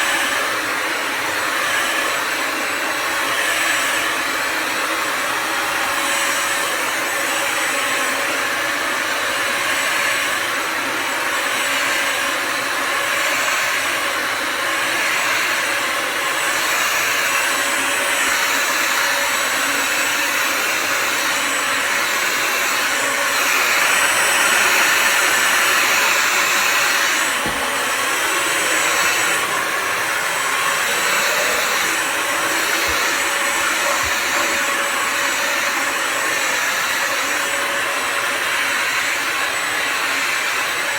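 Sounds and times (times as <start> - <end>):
vacuum motor whining: 0.0 - 40.9.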